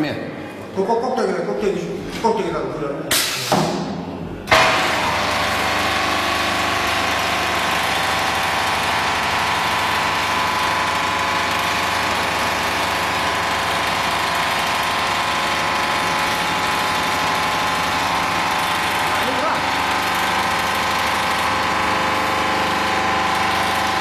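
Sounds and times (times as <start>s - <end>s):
welding machine droning: 4.4s - 24.0s.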